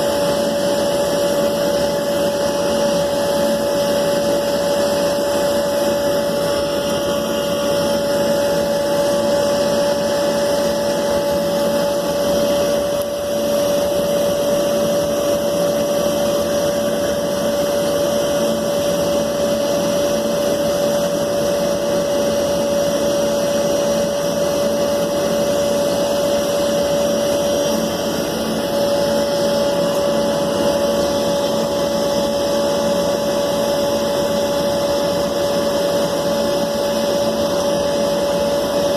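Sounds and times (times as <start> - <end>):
loud rushing hiss: 0.0 - 38.9
small electric motor whining: 0.0 - 38.9.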